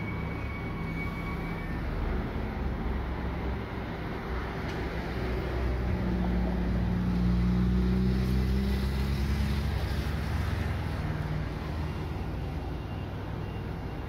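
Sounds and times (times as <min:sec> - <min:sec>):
diesel train engines running: 0:00.0 - 0:07.6, 0:09.2 - 0:14.0.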